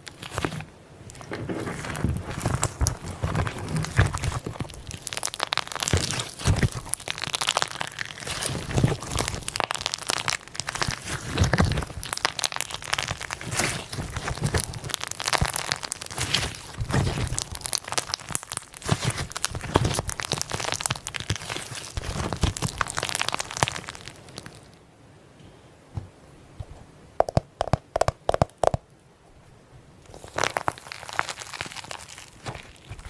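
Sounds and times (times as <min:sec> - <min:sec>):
slime popping: 0:00.0 - 0:24.7, 0:27.2 - 0:28.8, 0:30.1 - 0:33.0
slime crackling and crunching: 0:00.0 - 0:24.8, 0:27.2 - 0:28.8, 0:30.1 - 0:33.0.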